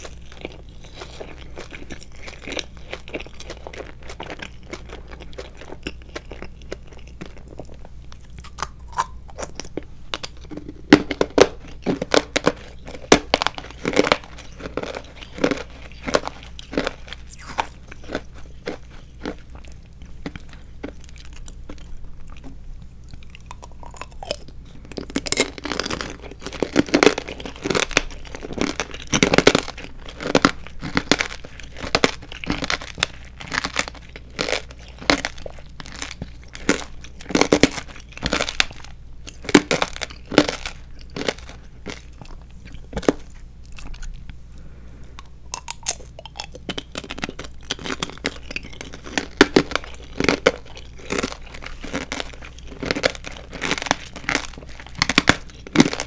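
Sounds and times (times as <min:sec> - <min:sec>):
chewing crunchy candy: 0:00.0 - 0:56.0.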